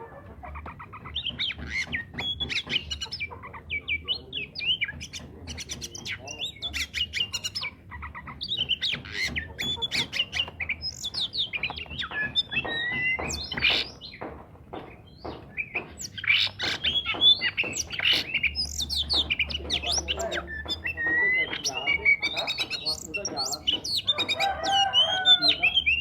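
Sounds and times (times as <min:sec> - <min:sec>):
bird singing whistled notes: 0:01.1 - 0:07.8, 0:08.4 - 0:14.2, 0:15.0 - 0:26.0.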